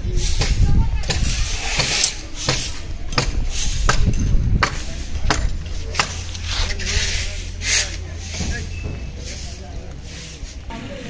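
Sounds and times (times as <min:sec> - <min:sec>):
stiff broom sweeping sandy ground: 0:00.0 - 0:11.0.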